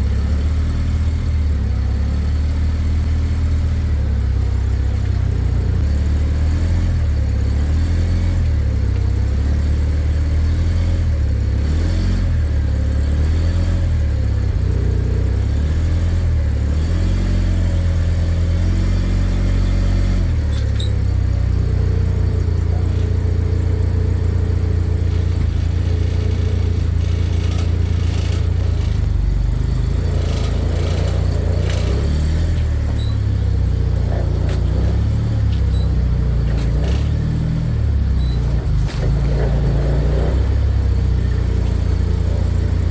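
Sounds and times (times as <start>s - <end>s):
truck engine revving: 5.6s - 42.9s.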